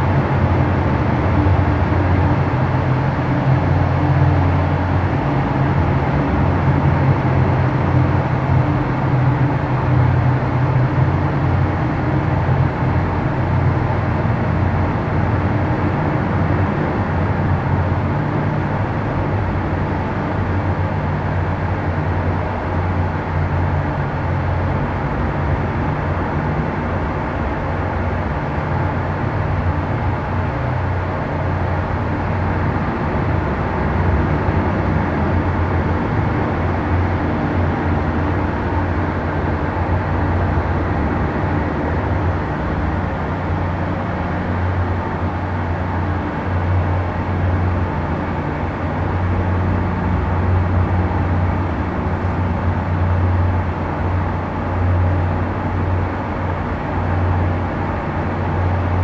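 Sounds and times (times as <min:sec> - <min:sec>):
boat engines humming: 0:08.1 - 0:59.0.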